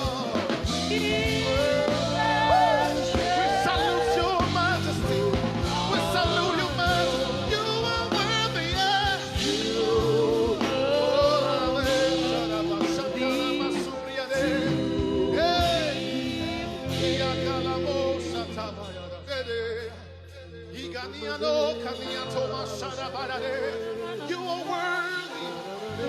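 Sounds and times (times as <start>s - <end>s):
gospel singing: 0.0s - 26.0s
instrumental backing: 0.0s - 26.0s.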